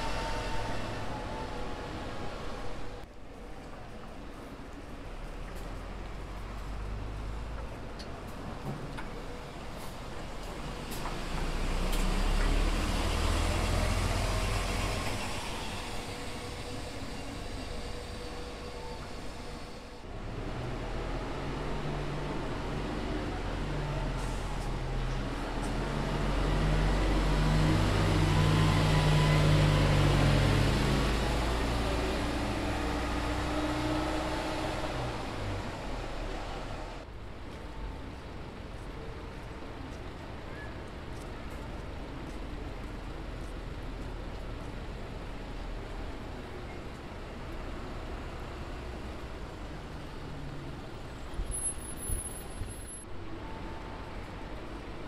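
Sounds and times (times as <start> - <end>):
bus engine driving past: 0.0 - 3.9, 4.9 - 55.0
road rumble: 0.0 - 55.0.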